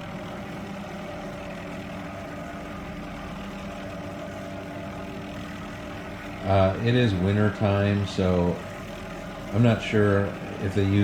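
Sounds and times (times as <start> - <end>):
distant helicopter engine drone: 0.0 - 11.0.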